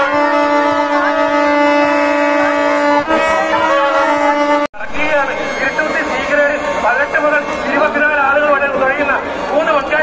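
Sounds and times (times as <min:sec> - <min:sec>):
plastic horn blown: 0:00.0 - 0:08.4
faint crowd voices: 0:00.0 - 0:10.0.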